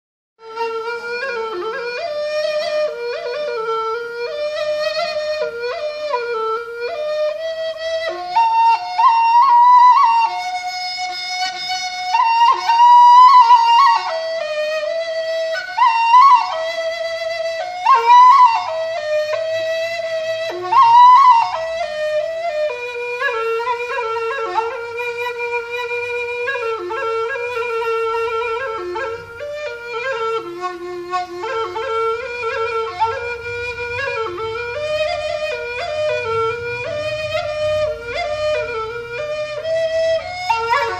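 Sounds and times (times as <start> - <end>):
bamboo flute melody: 0.4 - 40.9.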